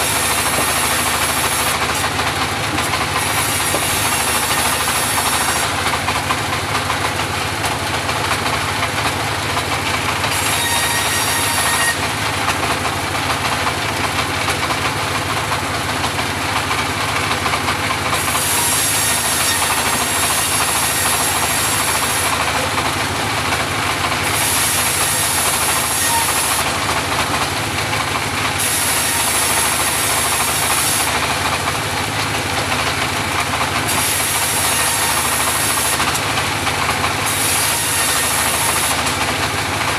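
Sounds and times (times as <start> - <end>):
bandsaw engine running: 0.0 - 39.9.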